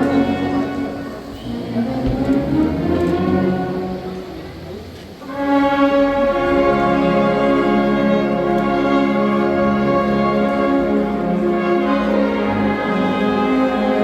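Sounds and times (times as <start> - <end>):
wind band playing held chords: 0.0 - 14.0.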